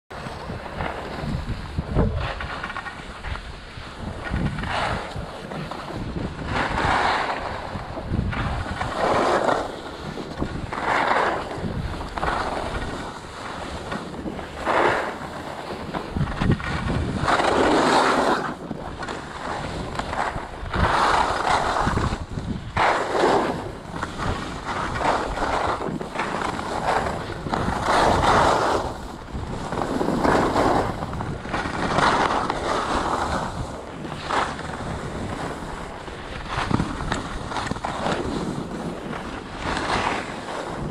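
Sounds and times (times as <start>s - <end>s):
skis scraping snow: 0.1s - 40.9s
wind rumbling on microphone: 0.1s - 40.9s.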